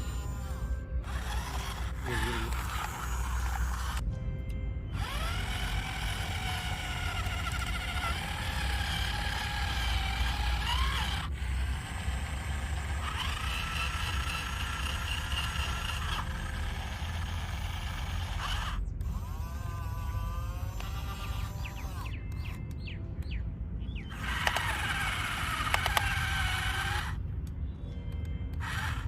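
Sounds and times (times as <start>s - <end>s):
toy gear motors whining: 0.0s - 4.0s, 4.9s - 22.8s, 24.0s - 27.6s, 28.5s - 29.0s.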